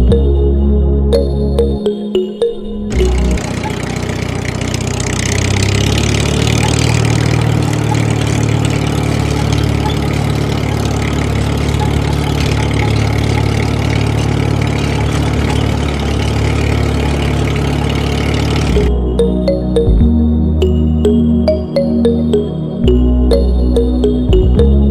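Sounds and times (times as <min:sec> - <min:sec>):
tractor engine idling: 0:02.9 - 0:24.8.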